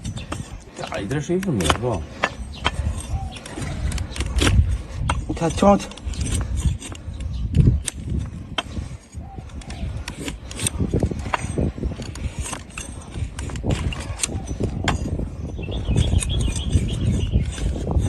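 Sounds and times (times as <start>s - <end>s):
blade cutting hard hoof: 0.0s - 18.0s
sharp cracks and scraping: 0.0s - 18.0s.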